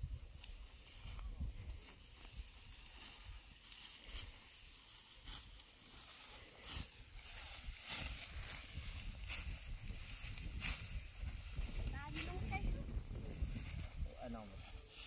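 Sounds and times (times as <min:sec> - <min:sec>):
dry rustling and swishing: 0:00.0 - 0:15.0.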